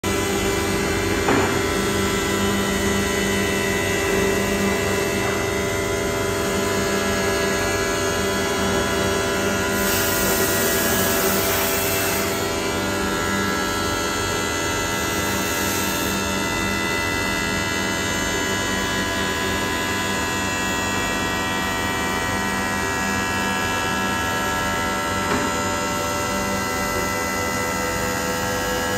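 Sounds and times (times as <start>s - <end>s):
wood router spindle whine: 0.1s - 28.9s.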